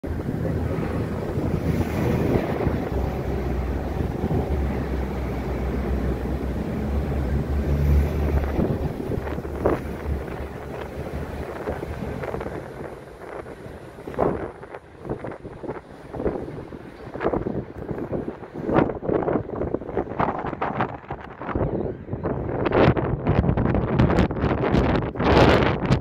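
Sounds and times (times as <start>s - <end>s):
diesel train engine drone: 0.0s - 23.2s
wind buffeting microphone: 0.0s - 26.0s.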